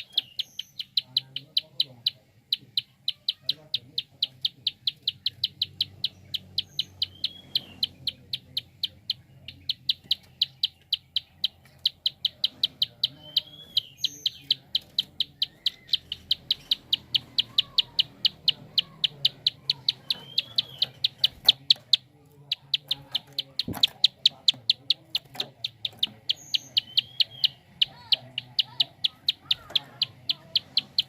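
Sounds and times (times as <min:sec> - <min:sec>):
bird rapid clicking call: 0:00.0 - 0:31.0
short slurred bird notes: 0:00.0 - 0:31.0.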